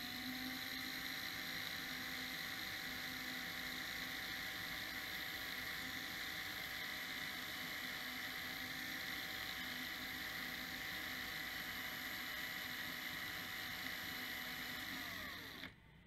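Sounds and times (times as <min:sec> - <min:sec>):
cordless drill motor whine: 0:00.0 - 0:15.9.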